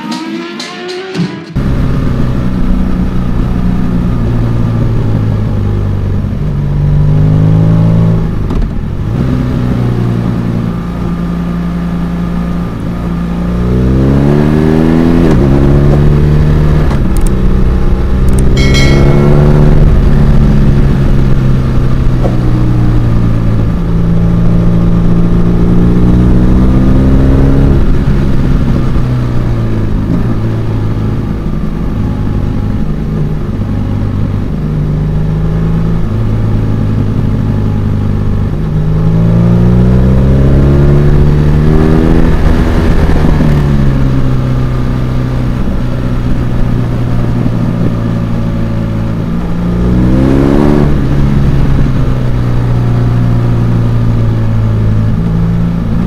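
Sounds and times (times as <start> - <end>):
motorcycle engine accelerating: 1.4 - 56.0.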